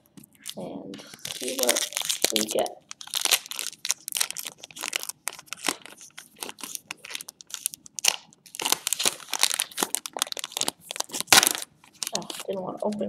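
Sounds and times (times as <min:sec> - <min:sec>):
foil wrapper crinkling: 0:00.2 - 0:12.6.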